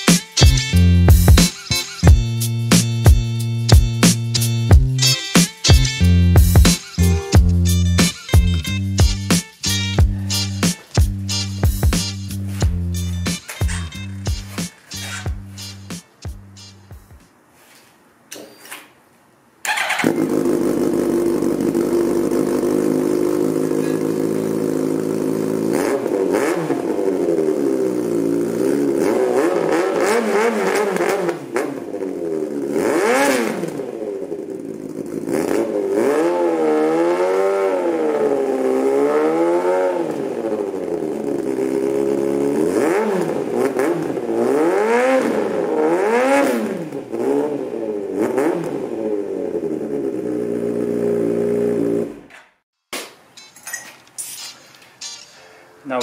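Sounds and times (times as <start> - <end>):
motorcycle engine idling and revving: 0.0 - 1.5, 2.1 - 5.1, 5.7 - 17.0, 19.7 - 52.6.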